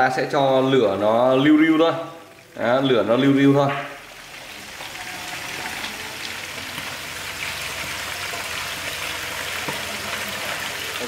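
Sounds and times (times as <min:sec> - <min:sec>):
fish sizzling in hot oil: 0:01.6 - 0:11.0.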